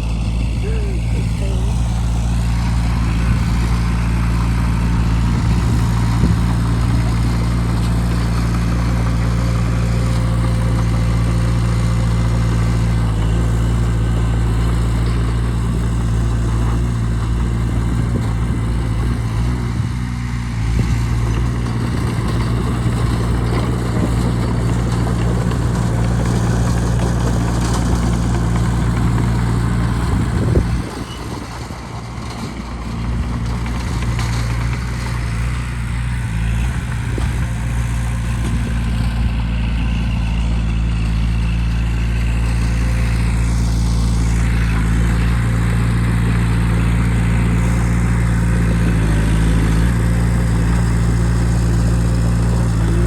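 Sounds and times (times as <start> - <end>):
bulldozer diesel engine droning: 0.0 - 53.0.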